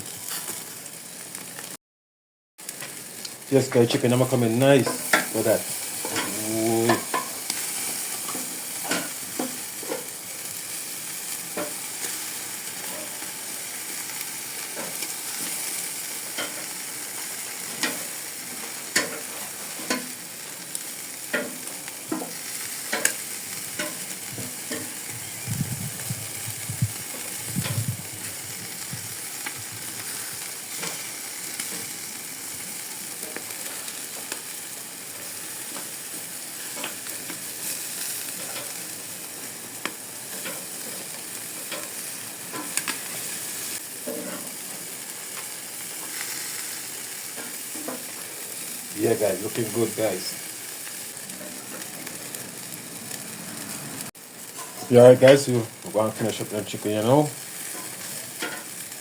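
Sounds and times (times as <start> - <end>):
chicken wings sizzling on grill: 0.0 - 1.7, 2.6 - 59.0.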